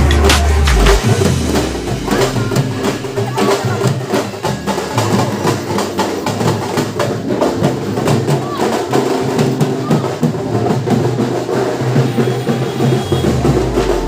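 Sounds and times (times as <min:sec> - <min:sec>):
music with percussion beat: 0:00.0 - 0:14.0.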